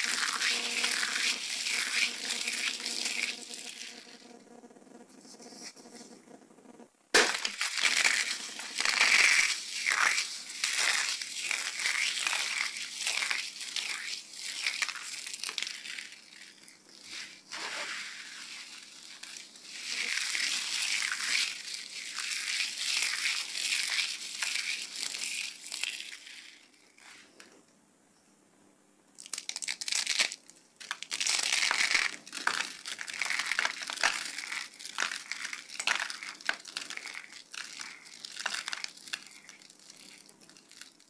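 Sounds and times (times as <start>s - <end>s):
dry soap crunching by hand: 0.0s - 4.3s, 7.1s - 26.7s, 29.2s - 41.0s.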